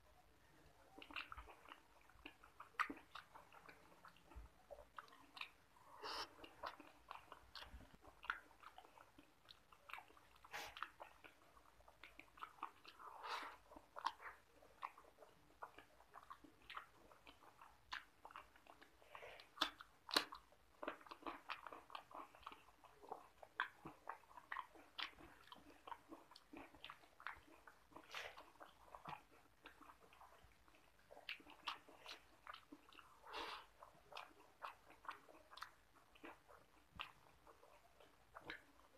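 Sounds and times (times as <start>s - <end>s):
person chewing with mouth open: 0.0s - 38.9s.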